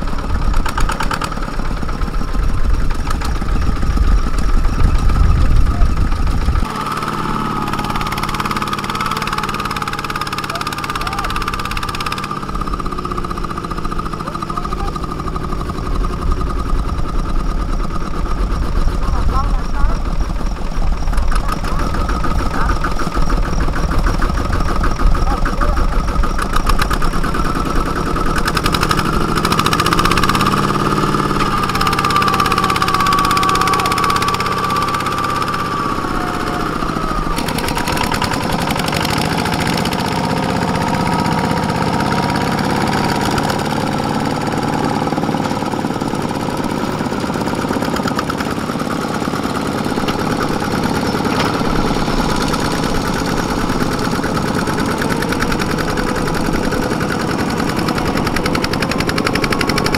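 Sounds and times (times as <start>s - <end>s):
diesel engine chugging under load: 0.0s - 59.9s.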